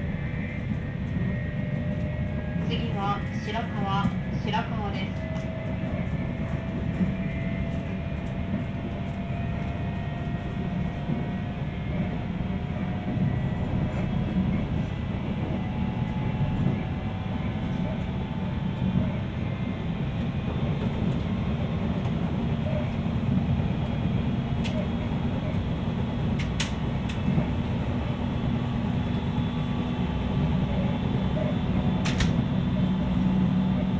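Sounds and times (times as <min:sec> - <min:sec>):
train cabin low rumble: 0:00.0 - 0:33.9.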